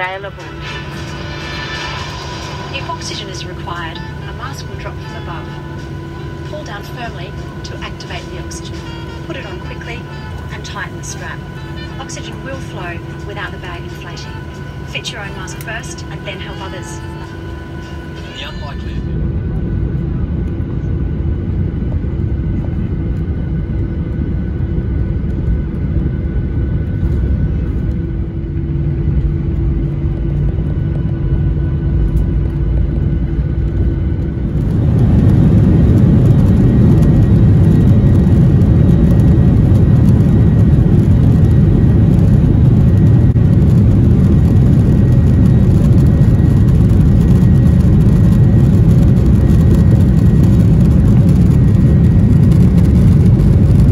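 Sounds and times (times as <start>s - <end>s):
aircraft cabin rumble: 0.0s - 53.9s.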